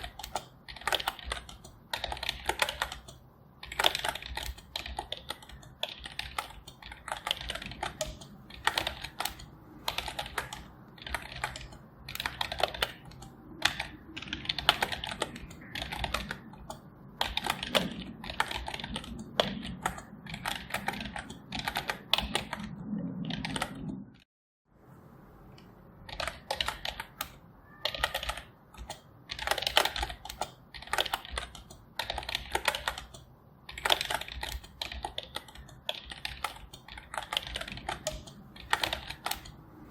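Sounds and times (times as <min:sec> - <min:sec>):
typing on computer keyboard: 0:00.0 - 0:24.0, 0:26.0 - 0:39.9.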